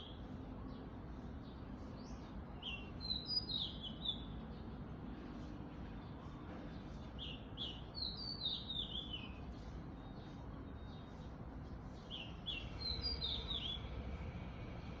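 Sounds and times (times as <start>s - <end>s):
songbird singing: 0.0s - 14.2s
low background noise: 0.0s - 15.0s.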